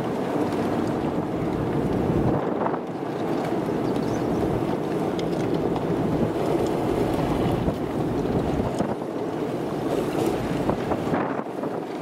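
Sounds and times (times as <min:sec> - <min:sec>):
wind rushing against vehicle: 0:00.0 - 0:12.0.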